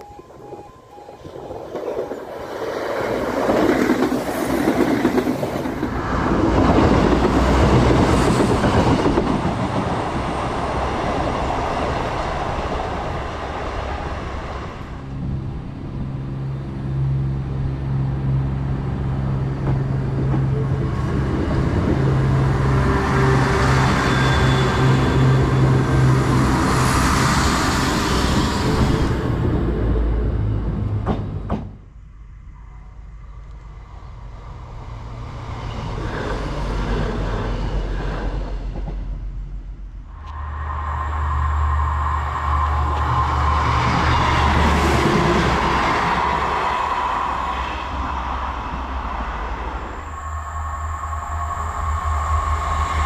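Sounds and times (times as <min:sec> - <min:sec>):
diesel train passing: 0:00.0 - 0:53.0
train engine drone: 0:00.0 - 0:53.0.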